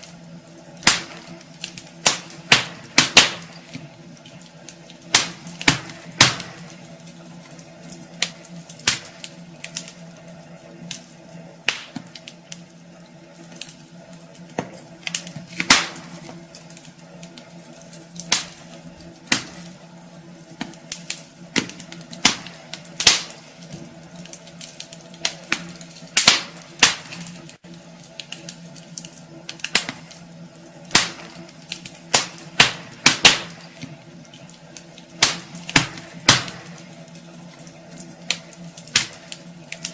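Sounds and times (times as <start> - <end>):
steady low hum: 0.0 - 39.9
wood fire crackling: 0.0 - 39.9.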